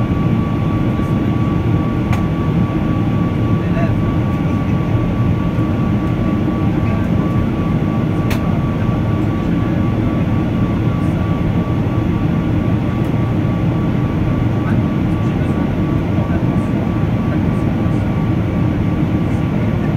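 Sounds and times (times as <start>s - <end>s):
airplane cabin engine rumble: 0.0s - 19.9s.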